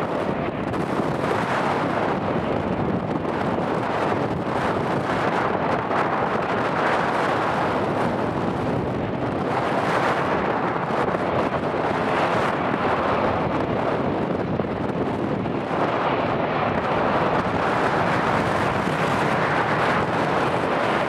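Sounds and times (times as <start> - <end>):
jet engine rushing: 0.0 - 21.0.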